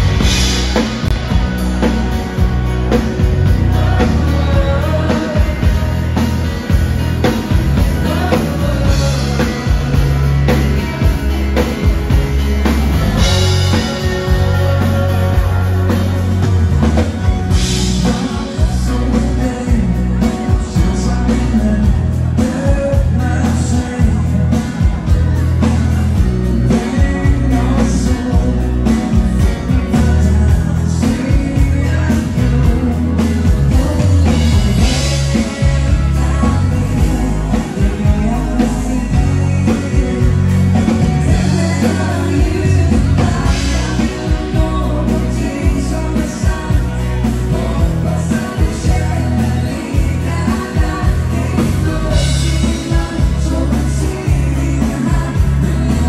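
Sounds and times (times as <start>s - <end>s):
bass: 0.0s - 56.0s
electric guitars: 0.0s - 56.0s
keyboards: 0.0s - 56.0s
person singing: 0.0s - 56.0s.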